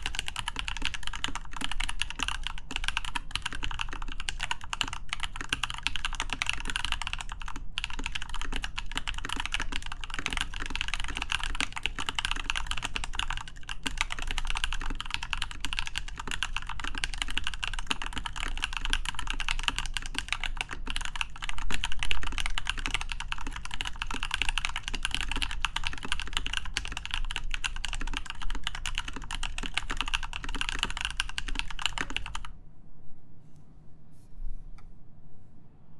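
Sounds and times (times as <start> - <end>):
fast typing on mechanical keyboard: 0.0 - 32.5.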